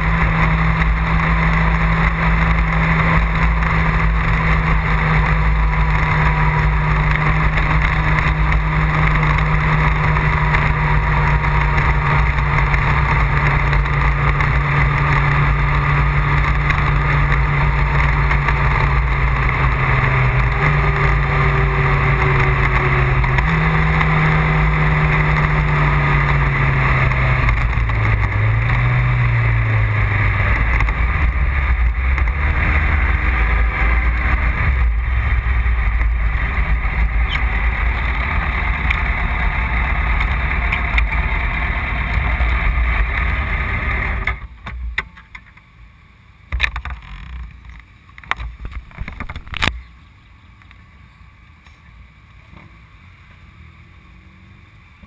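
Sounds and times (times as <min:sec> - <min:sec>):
vehicle engine cruising: 0:00.0 - 0:55.0.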